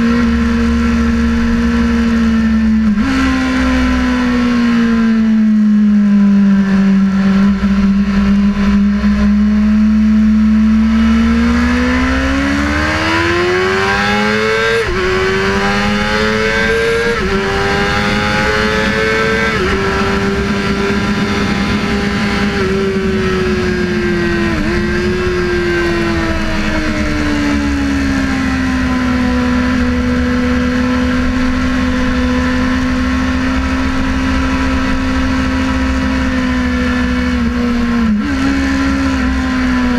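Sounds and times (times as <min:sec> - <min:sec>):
low wind rumble: 0:00.0 - 0:39.9
motorcycle engine shifting gears: 0:00.0 - 0:39.9.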